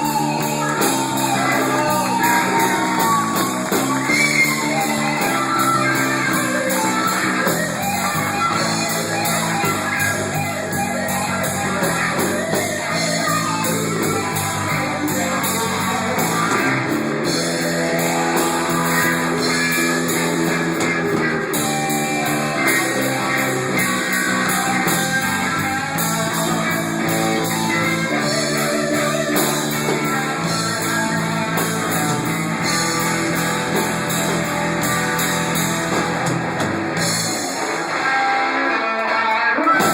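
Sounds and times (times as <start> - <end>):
guitar-led rock band music: 0.0 - 39.9.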